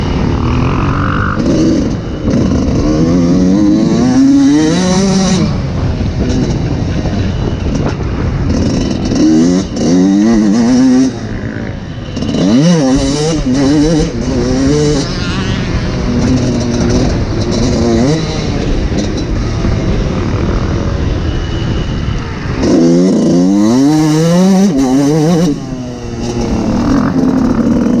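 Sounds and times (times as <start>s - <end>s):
two-stroke motocross engine revving: 0.0s - 6.6s, 8.5s - 20.5s, 22.6s - 28.0s.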